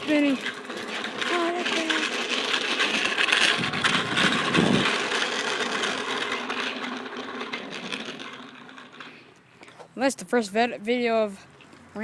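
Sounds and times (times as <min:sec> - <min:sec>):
bike pedals: 0:00.0 - 0:12.0
mini bike rattling: 0:00.0 - 0:12.0.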